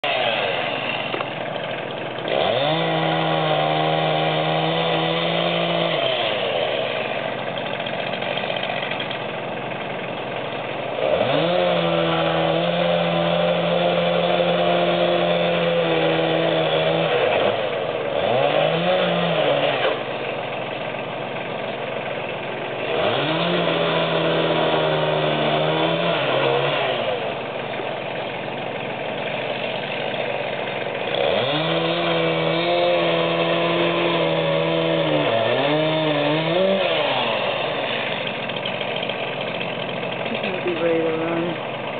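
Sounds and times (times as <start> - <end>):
chainsaw revving and idling: 0.0 - 41.9.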